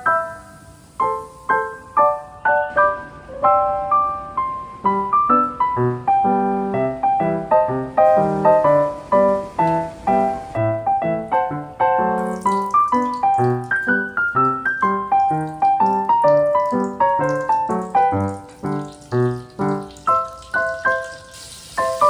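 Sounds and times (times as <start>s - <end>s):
gentle piano melody: 0.0s - 22.0s
piano bass notes: 0.0s - 22.0s.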